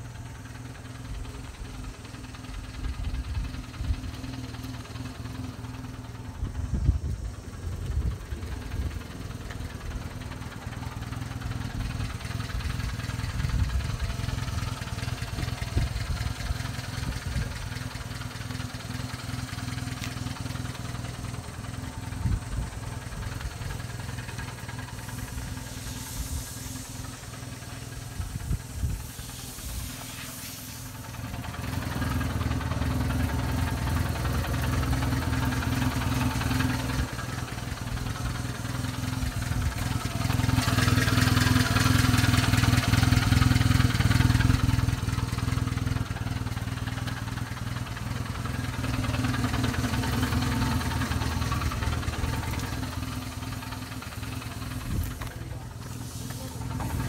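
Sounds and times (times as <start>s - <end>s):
car engine idling: 0.0s - 57.0s
hiss: 0.0s - 57.0s.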